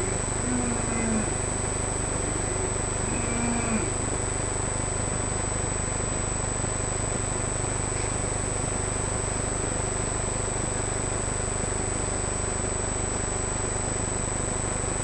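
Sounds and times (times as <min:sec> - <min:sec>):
faint high whine: 0:00.0 - 0:15.0
machine hum with hiss: 0:00.0 - 0:15.0.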